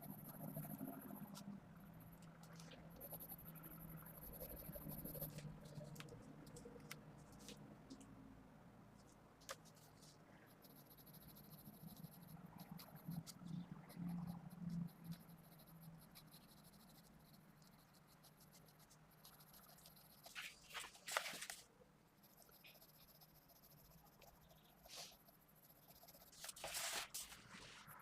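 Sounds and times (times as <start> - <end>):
pencil scratching on paper: 0.0 - 5.8, 9.4 - 21.6, 22.2 - 28.0.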